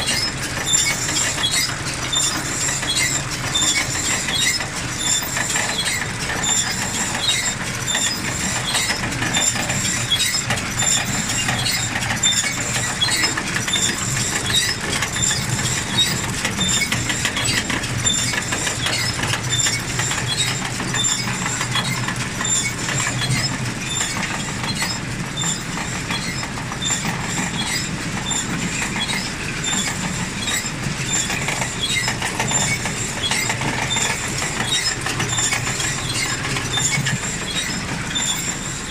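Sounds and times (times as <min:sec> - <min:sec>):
baler rollers humming and rattling: 0:00.0 - 0:38.9.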